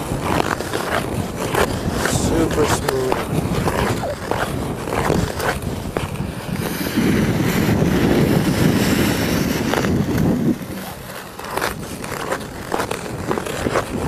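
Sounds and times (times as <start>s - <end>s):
ice skates scraping on ice: 0.0s - 14.0s.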